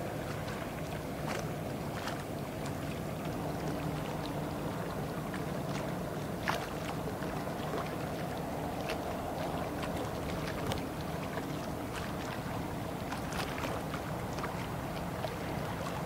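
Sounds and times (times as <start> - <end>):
water wash: 0.0 - 16.0.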